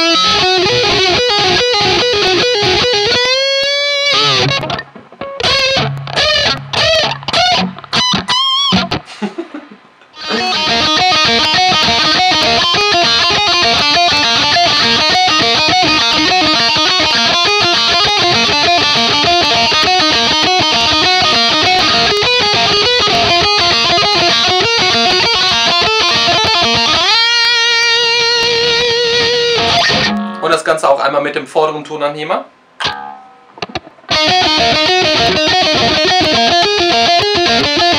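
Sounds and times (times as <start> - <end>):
distorted electric guitar: 0.0 - 30.6, 32.8 - 37.9.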